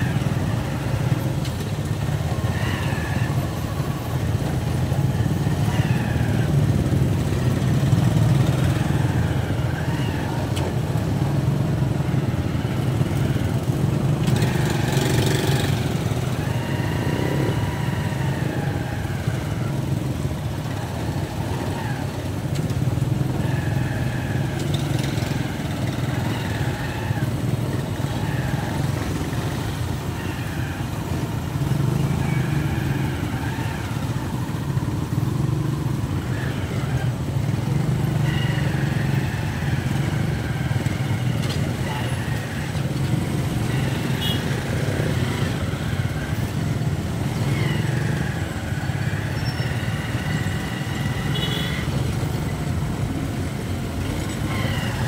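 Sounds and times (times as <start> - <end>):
motorcycle engines idling: 0.0 - 55.0.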